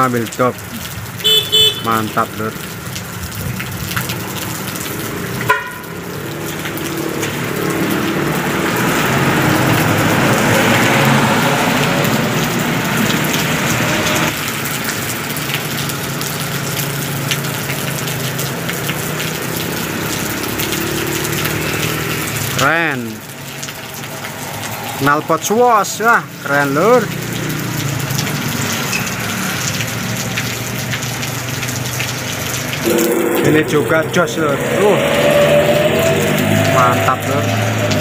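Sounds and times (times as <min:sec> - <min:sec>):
heavy rain: 0:00.0 - 0:38.0
truck driving past on wet road: 0:03.6 - 0:38.0.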